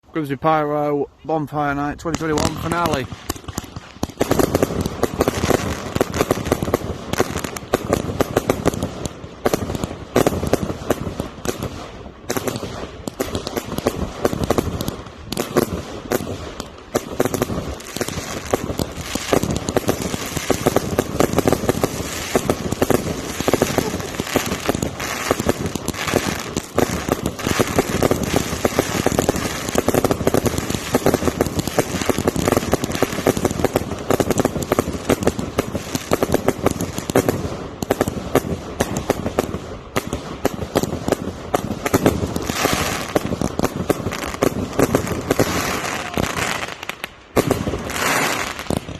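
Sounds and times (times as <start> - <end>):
fireworks rapid bangs and crackles: 1.4 - 48.9.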